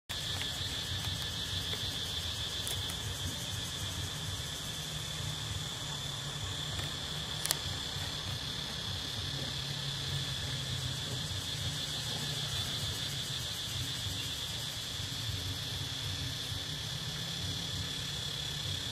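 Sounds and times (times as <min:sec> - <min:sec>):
insect chorus droning: 0:00.0 - 0:18.9.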